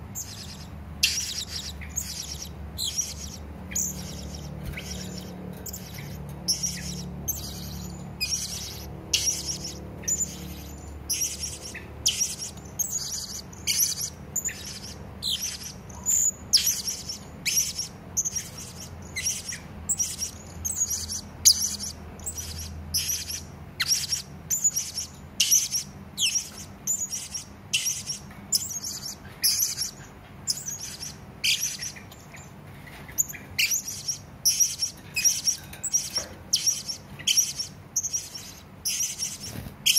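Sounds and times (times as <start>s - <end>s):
faint low hum: 0.0s - 39.9s
parrot high-pitched chirps: 0.1s - 39.9s.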